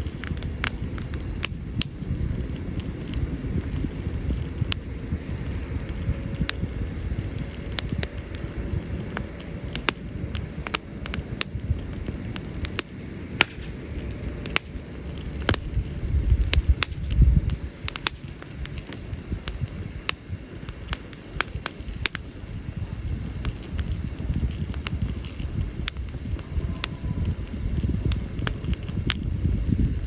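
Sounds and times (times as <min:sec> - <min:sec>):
firewood crackling: 0:00.0 - 0:30.0.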